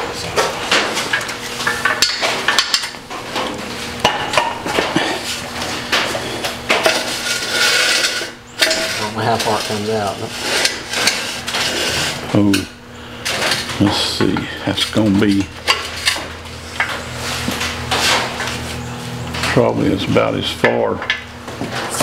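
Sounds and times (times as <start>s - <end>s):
steel clanking and rattling: 0.7s - 18.6s.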